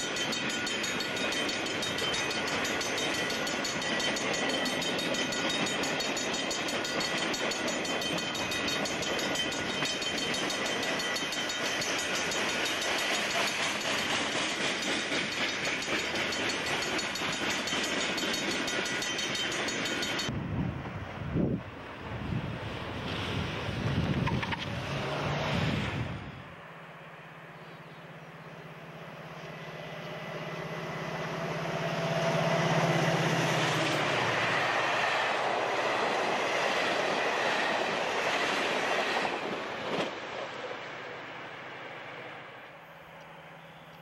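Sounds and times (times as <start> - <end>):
train wheels rolling on rails: 0.0 - 44.0.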